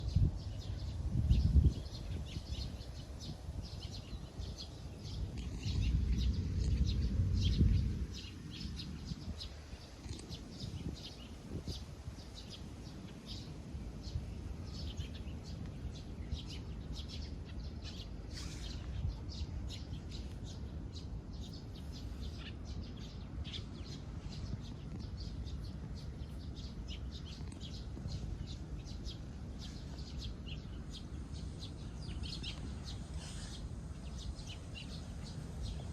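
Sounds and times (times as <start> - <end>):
low outdoor background: 0.0 - 35.9
small birds chirping: 0.0 - 35.9.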